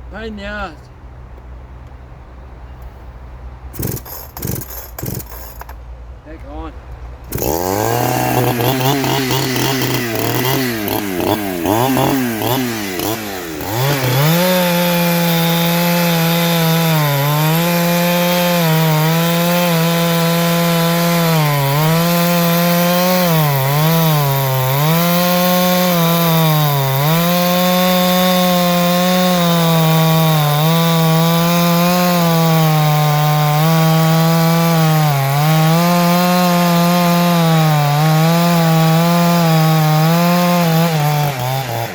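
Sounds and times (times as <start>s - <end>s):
chainsaw running: 3.8s - 5.8s, 7.2s - 41.9s.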